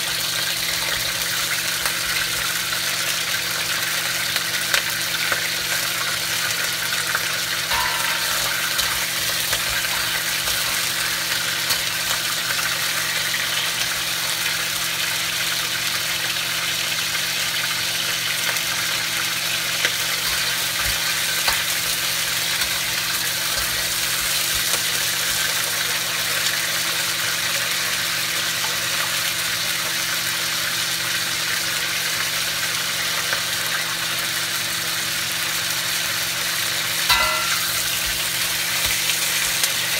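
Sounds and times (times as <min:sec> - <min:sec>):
crabs frying in oil: 0:00.0 - 0:39.9.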